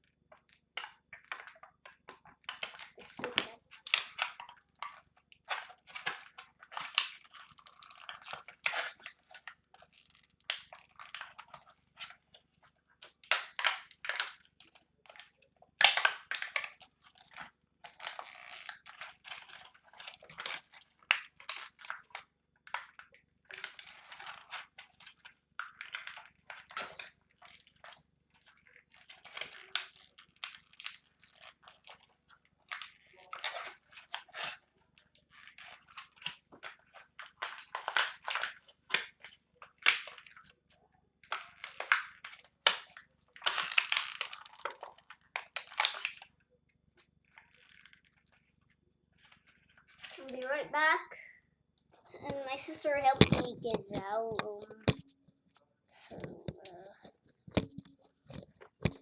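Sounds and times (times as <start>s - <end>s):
plastic clicks and scrapes: 0.1s - 46.4s, 47.0s - 50.9s, 51.8s - 59.0s.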